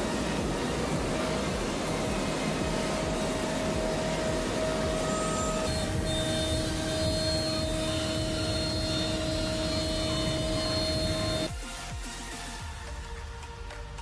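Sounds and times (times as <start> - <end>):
cnc router spindle routing board: 0.0 - 11.5
low machine tone: 0.0 - 11.5
machine whine: 0.0 - 12.2.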